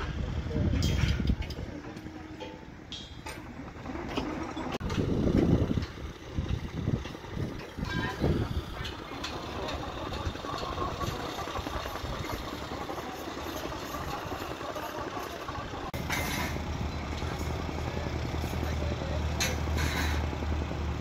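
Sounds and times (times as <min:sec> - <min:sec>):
heavy engine running: 0:00.0 - 0:21.0.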